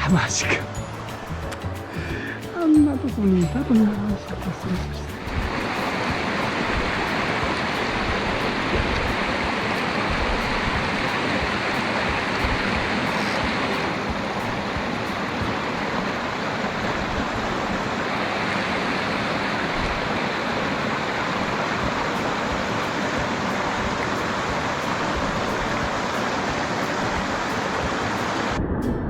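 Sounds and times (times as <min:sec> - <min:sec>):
stream water rushing: 0:00.0 - 0:28.8.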